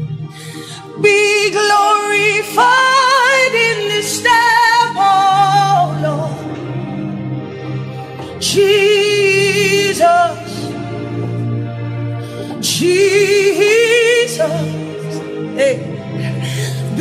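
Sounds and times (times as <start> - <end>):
low accompaniment: 0.0 - 17.0
violin melody with vibrato: 0.0 - 17.0.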